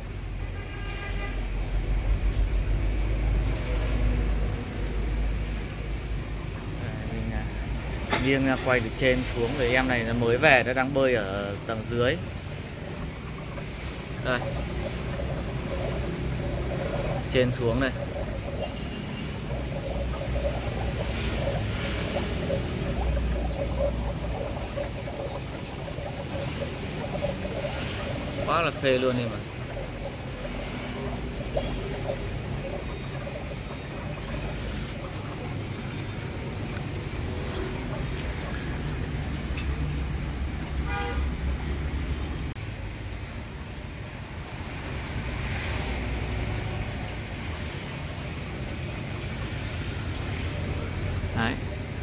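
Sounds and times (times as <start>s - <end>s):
aquarium pump hum: 0.0s - 52.0s
water flowing and bubbling: 0.0s - 52.0s.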